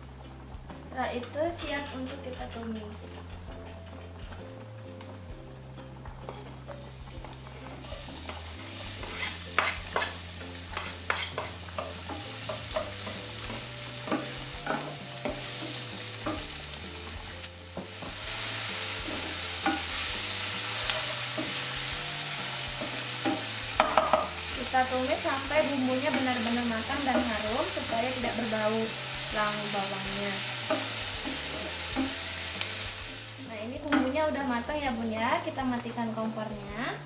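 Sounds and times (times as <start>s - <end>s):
onion sizzling in oil: 0.0s - 37.0s
spatula scraping wok: 1.6s - 5.3s, 6.0s - 33.3s.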